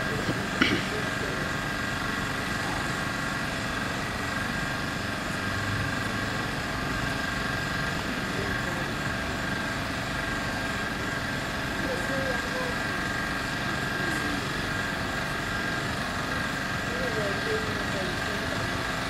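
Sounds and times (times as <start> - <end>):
steady mechanical drone: 0.0 - 19.0.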